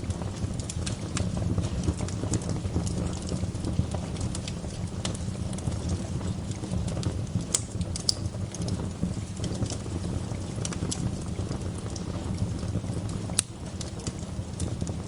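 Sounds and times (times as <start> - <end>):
burning wood crackling and popping: 0.0 - 15.0
flames low rumble: 0.0 - 15.0.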